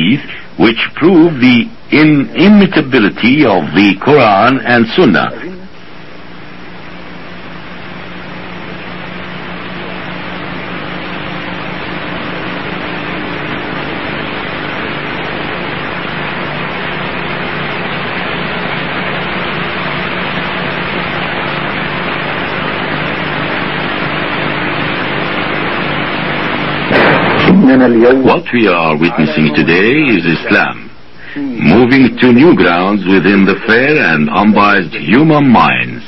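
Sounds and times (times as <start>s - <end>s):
faint low hum: 0.0s - 36.0s
static hiss: 0.0s - 36.0s.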